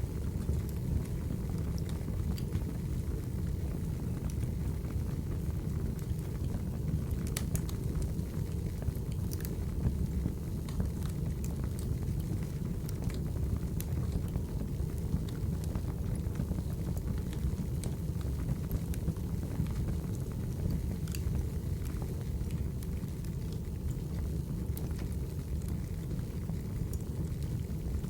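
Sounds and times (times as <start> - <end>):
fire rumbling: 0.0 - 28.0
wood crackling and popping: 0.1 - 3.4, 5.8 - 28.0.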